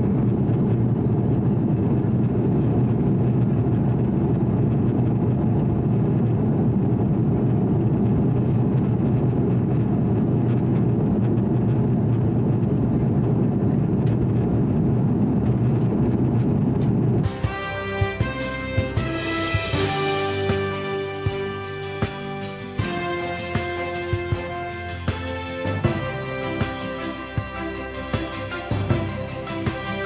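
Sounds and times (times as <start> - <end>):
airplane cabin engine rumble: 0.0 - 30.0.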